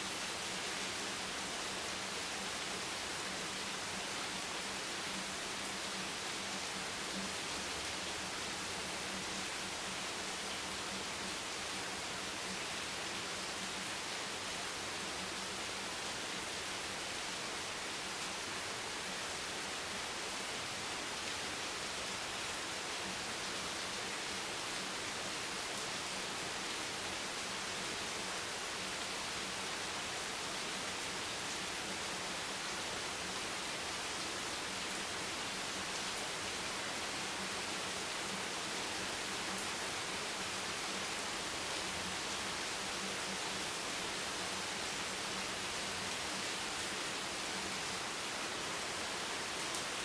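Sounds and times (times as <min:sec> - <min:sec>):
steady rain: 0:00.0 - 0:50.0.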